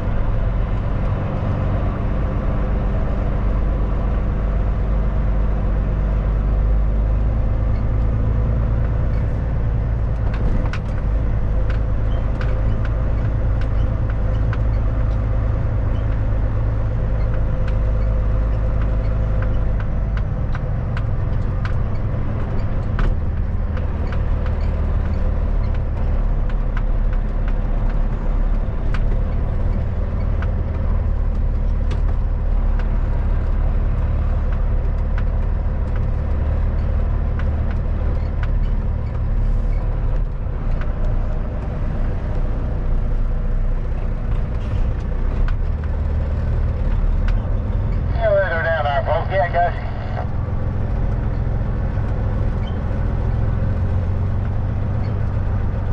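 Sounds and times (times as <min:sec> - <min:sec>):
truck diesel engine droning: 0:00.0 - 0:55.9.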